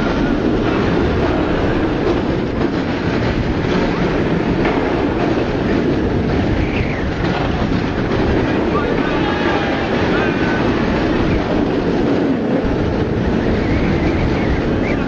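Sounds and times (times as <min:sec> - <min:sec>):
roller coaster rumble and rush: 0:00.0 - 0:15.0
wind on microphone: 0:00.0 - 0:15.0.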